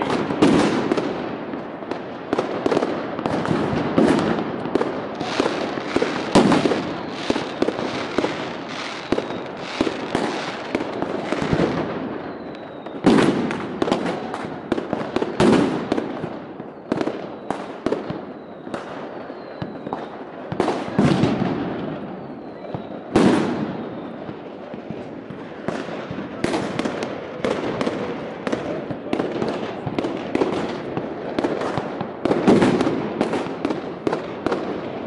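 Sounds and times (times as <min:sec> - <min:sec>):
fireworks banging and crackling: 0:00.0 - 0:35.0.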